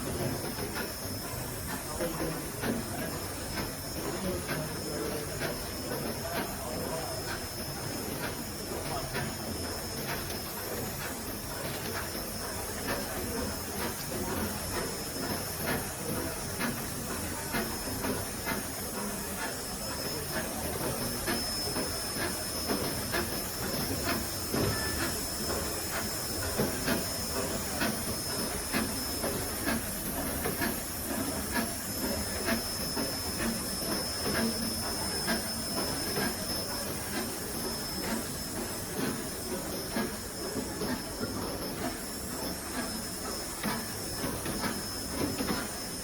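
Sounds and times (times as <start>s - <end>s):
factory machinery hiss and whine: 0.0s - 46.0s.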